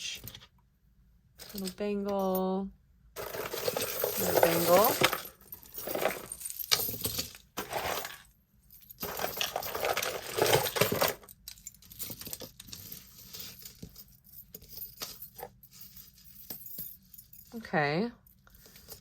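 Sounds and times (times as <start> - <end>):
metal bracelets clinking: 1.4 - 2.5, 3.2 - 17.6, 18.2 - 19.0.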